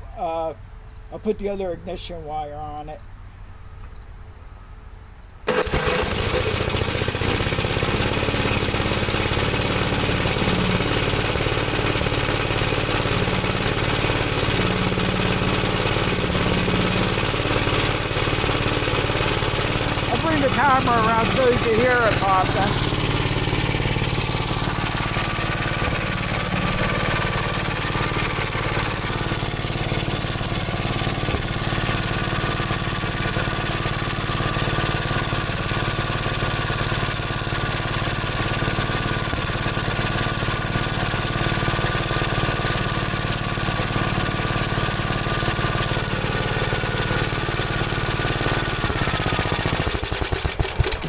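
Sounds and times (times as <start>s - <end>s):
engine running: 5.4s - 51.0s.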